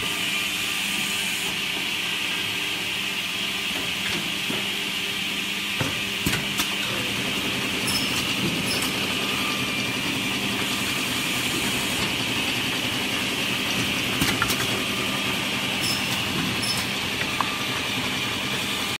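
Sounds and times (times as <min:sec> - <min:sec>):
machine motor hum and whine: 0:00.0 - 0:19.0.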